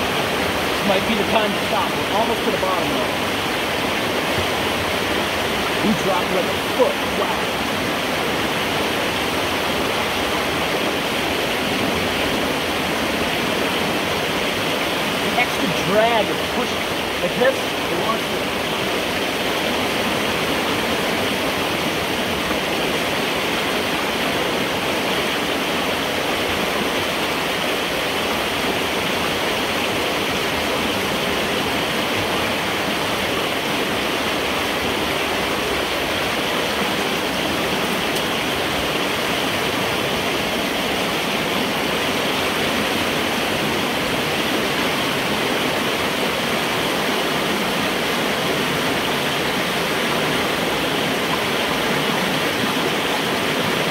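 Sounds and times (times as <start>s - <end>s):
water rushing through pipe: 0.0s - 53.9s.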